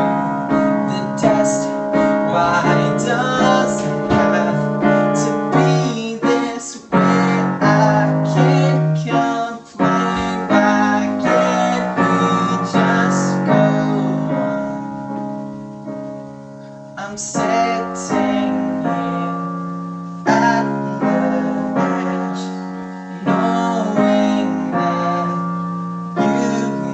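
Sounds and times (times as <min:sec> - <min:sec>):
piano chords: 0:00.0 - 0:26.9.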